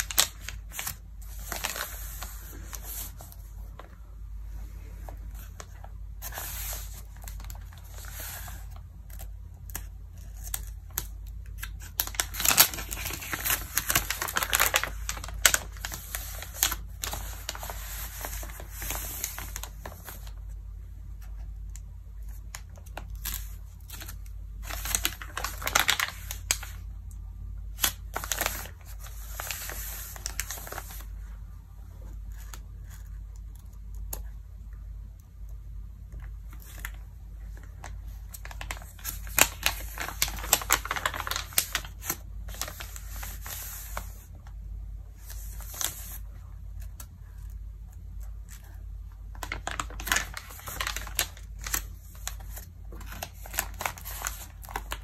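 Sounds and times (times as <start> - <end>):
magazine pages rustling: 0.0 - 20.6, 22.2 - 26.9, 27.7 - 31.3, 36.2 - 44.4, 45.1 - 55.0
steady low hum: 0.0 - 55.0.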